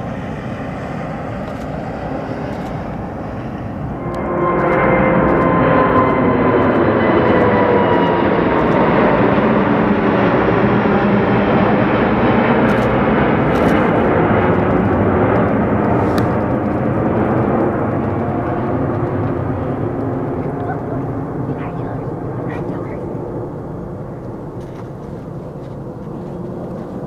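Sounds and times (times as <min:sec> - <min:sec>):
jet engines roaring overhead: 0:00.0 - 0:27.0.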